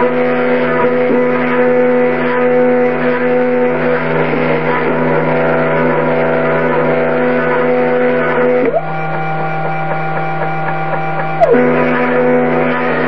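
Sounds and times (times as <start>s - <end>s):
router spindle cutting plywood: 0.0s - 13.0s
stepper motors whining: 0.0s - 13.0s.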